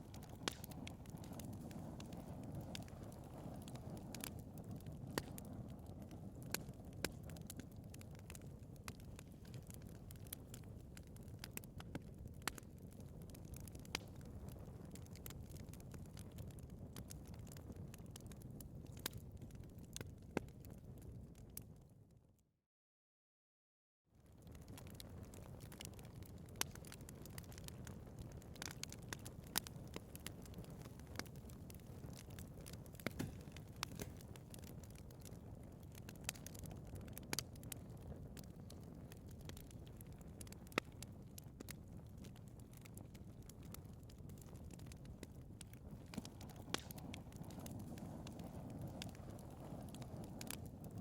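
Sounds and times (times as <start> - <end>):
wood fire crackling: 0.0 - 21.7, 24.2 - 51.0.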